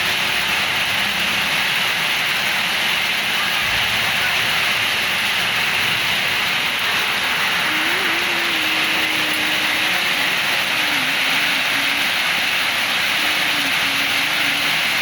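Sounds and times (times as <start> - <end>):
heavy rain in strong wind: 0.0 - 15.0.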